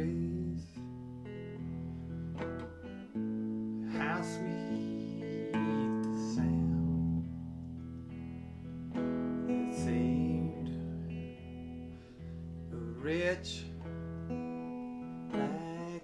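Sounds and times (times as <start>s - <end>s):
electric guitar chords strummed: 0.0s - 16.0s.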